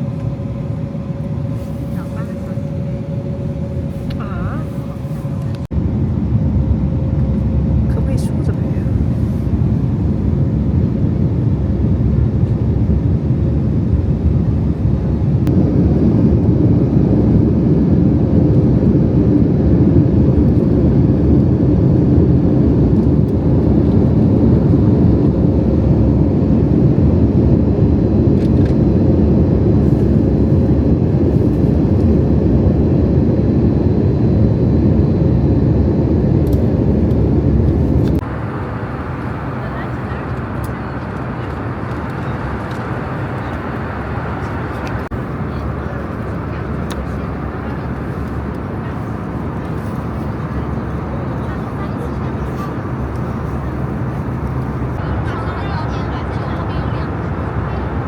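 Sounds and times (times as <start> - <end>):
jet engines running loud: 0.0 - 58.0.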